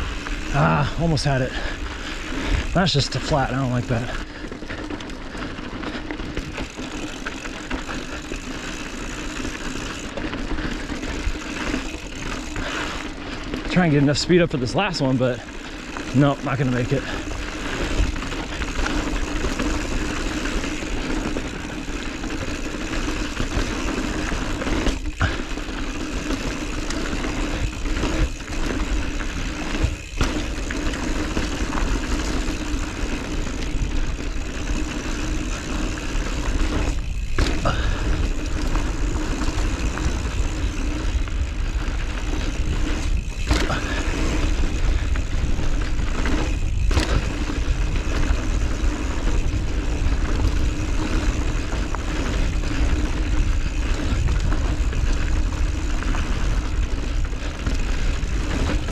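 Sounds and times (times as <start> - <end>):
bike tyres on dirt trail: 0.0 - 58.9.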